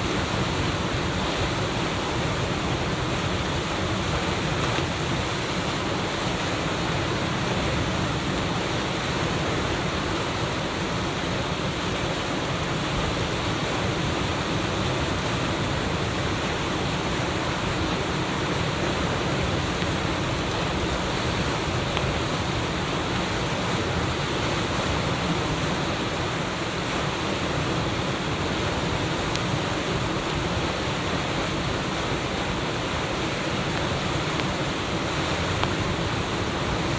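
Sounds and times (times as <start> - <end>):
flooded river rushing: 0.0 - 36.9.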